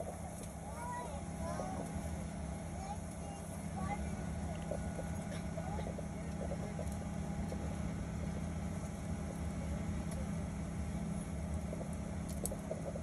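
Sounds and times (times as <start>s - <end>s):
aircraft cabin hum: 0.0s - 13.0s.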